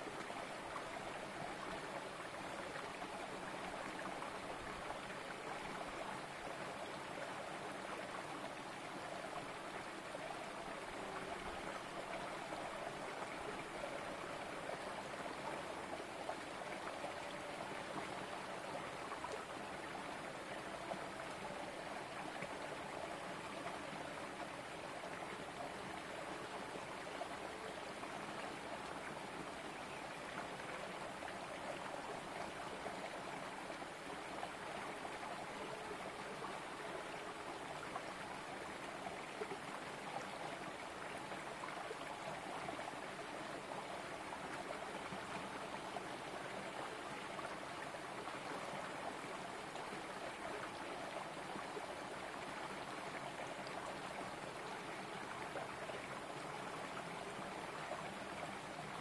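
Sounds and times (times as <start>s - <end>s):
stream trickling: 0.0s - 59.0s.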